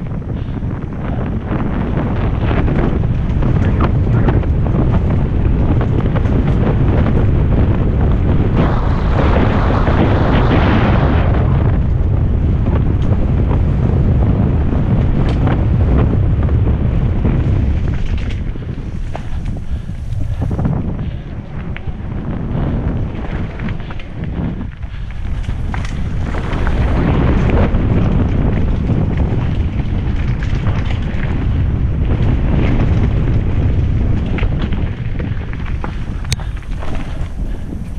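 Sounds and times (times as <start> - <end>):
bike rattles and clicks: 0.0 - 8.6, 11.8 - 37.9
bike tyre noise: 0.0 - 37.9
wind buffeting microphone: 0.0 - 37.9.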